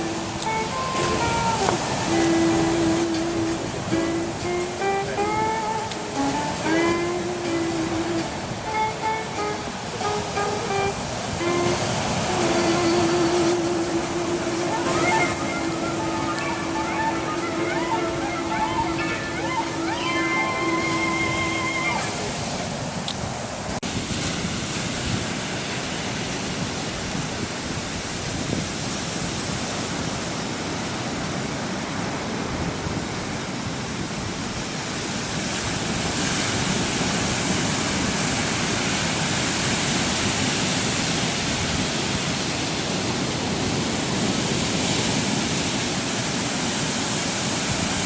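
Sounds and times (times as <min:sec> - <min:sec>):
waves breaking: 0:00.0 - 0:48.0.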